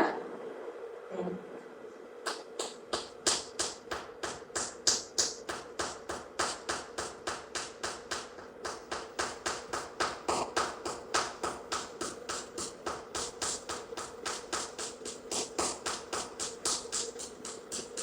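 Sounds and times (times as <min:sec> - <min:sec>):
skin slapping claps: 0:02.2 - 0:18.0.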